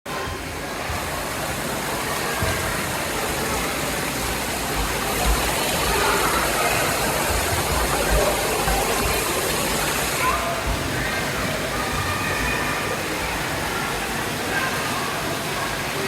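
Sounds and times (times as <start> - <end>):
waterfall rushing: 0.5 - 16.0.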